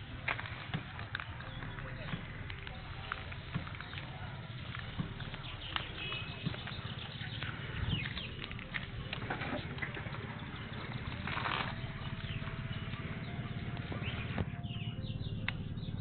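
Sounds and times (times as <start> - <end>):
birds chirping faintly: 0.0 - 16.0
motorcycle engine idling: 0.0 - 16.0.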